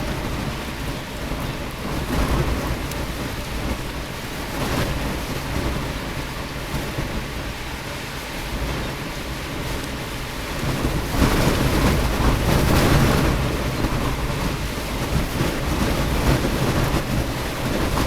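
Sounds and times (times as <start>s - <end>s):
rain: 0.0s - 18.0s
wind rumble on microphone: 0.0s - 18.0s.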